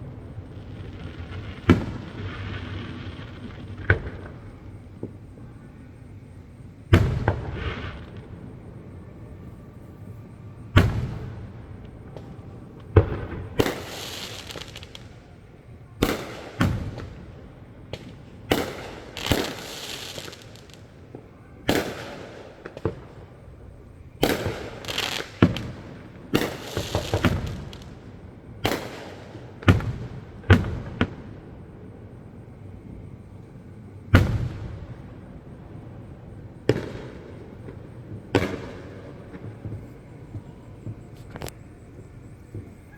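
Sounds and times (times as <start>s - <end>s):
firework bursts: 0.0s - 42.9s
firework hissing crackle: 0.0s - 42.9s.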